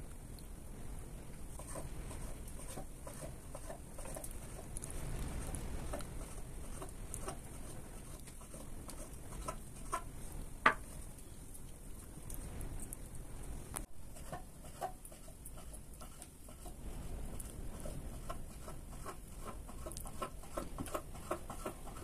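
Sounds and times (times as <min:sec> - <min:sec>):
low steady hiss: 0:00.0 - 0:22.0.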